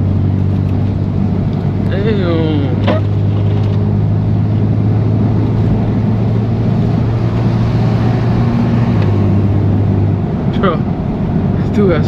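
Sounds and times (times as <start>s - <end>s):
car exhaust drone: 0.0s - 12.0s
road noise: 0.0s - 12.0s.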